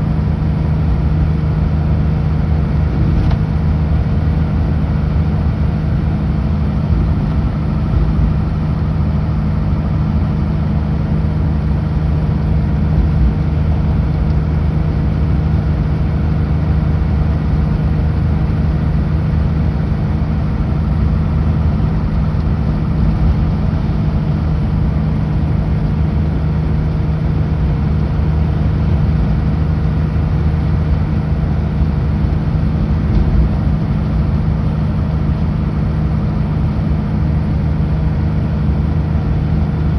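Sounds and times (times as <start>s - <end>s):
road noise: 0.0s - 37.6s
truck diesel engine droning: 0.0s - 39.9s.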